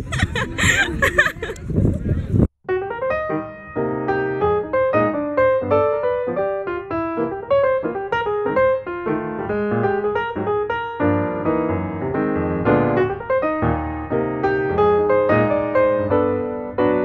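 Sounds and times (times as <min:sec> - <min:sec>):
piano music: 0:02.6 - 0:17.0.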